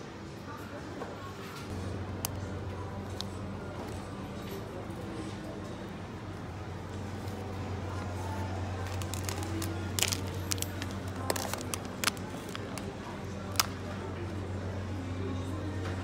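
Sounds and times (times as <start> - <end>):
faint background voices: 0.0 - 16.0.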